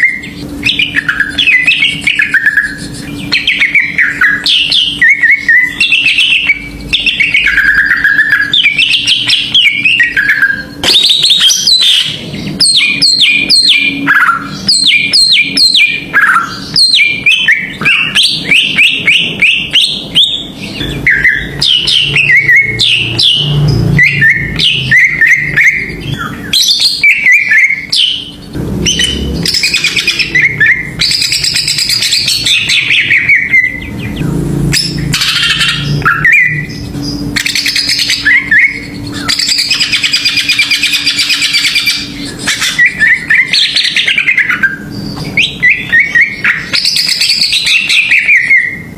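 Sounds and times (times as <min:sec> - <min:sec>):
bird singing chirps and trills: 0:00.0 - 0:48.9.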